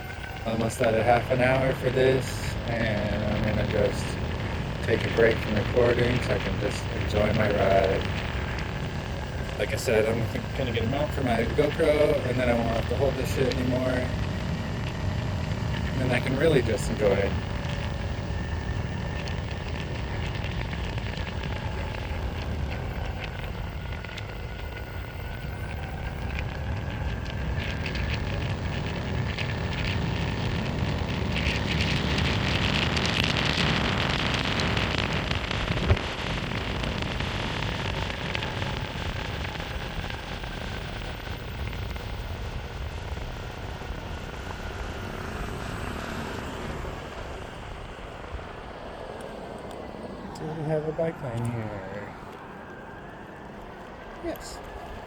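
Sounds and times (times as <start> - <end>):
faint electric motor whine: 0.0 - 55.0
skateboard wheels rolling on asphalt: 0.0 - 55.0.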